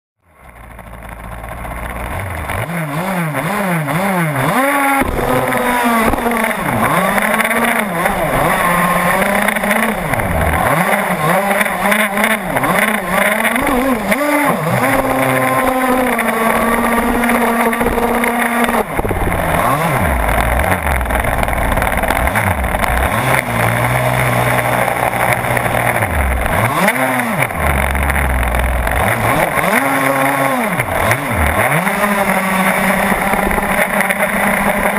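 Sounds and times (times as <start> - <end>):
small boat engine revving: 0.4 - 34.9.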